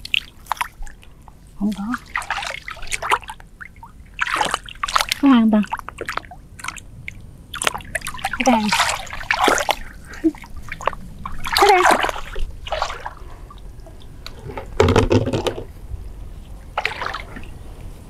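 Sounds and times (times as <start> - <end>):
water splashing from wading: 0.0 - 15.5, 16.6 - 17.7.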